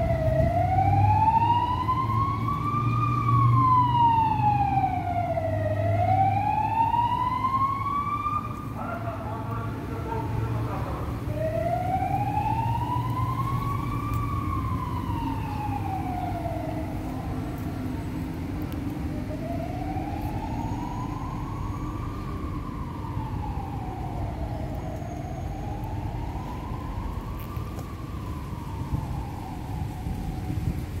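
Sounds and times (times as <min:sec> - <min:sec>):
siren wailing: 0:00.0 - 0:18.2, 0:19.0 - 0:30.8.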